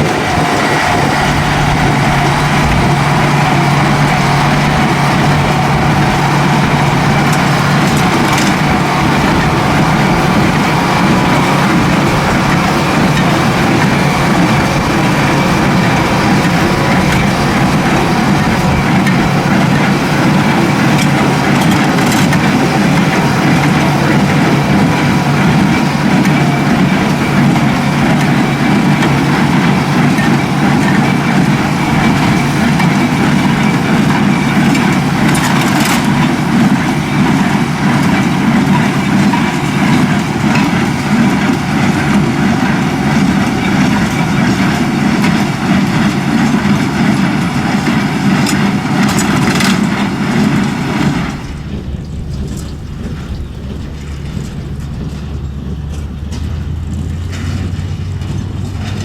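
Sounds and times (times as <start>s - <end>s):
diesel engine with mechanical clatter: 0.0s - 59.0s.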